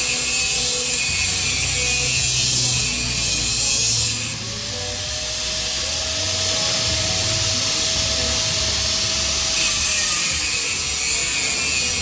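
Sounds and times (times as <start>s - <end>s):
power tool hissing with whine: 0.0s - 12.0s.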